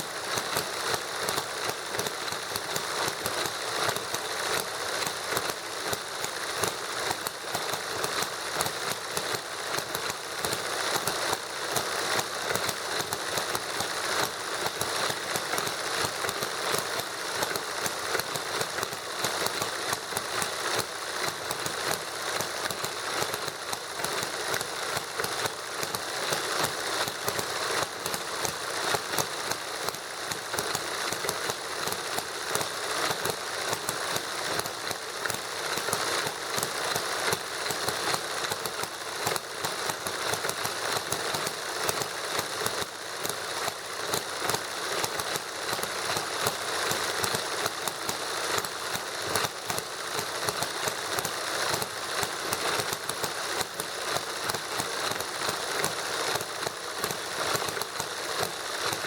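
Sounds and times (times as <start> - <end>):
model engines clattering: 0.0 - 59.0.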